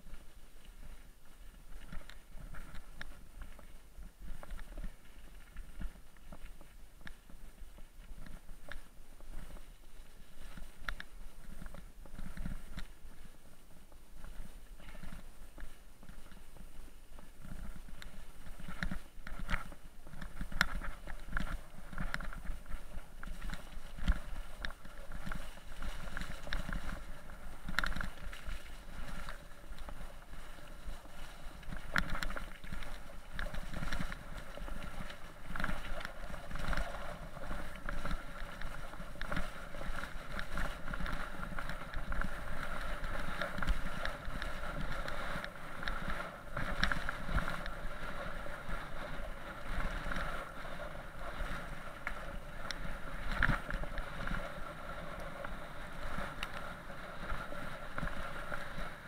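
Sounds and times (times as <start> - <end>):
bike tyres rolling on gravel: 0.0 - 59.0
wind noise on microphone: 0.0 - 59.0.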